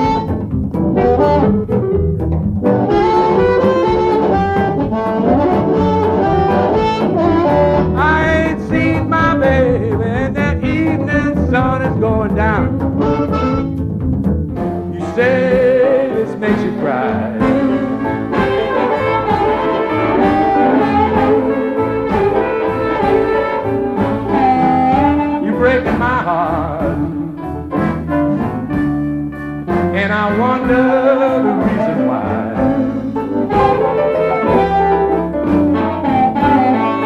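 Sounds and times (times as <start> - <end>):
electric blues band playing: 0.0 - 37.0
harmonica bending notes: 0.0 - 37.0.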